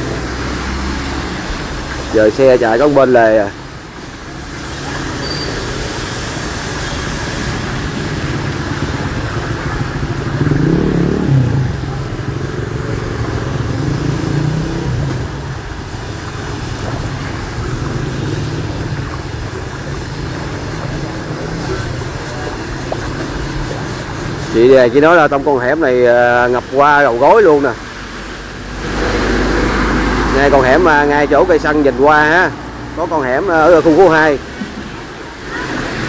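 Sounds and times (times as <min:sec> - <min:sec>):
vehicle passing: 0:00.0 - 0:03.5, 0:04.3 - 0:24.8, 0:26.6 - 0:36.0
motorbike engines running: 0:00.0 - 0:36.0.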